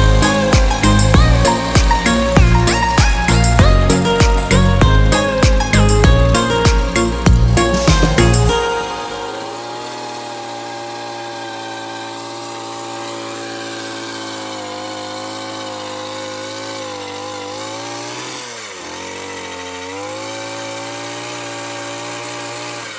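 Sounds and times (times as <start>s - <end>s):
small engine running: 0.0s - 22.9s.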